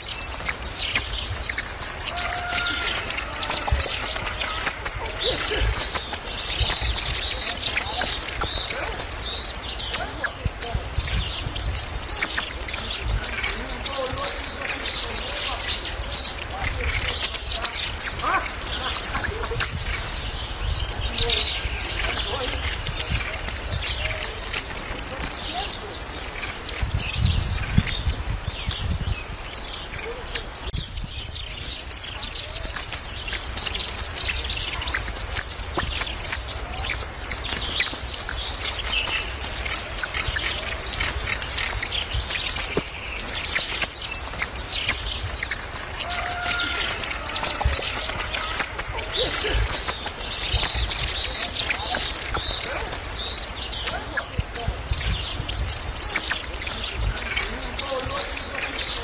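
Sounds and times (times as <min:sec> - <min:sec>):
bird twittering: 0:00.0 - 0:59.0.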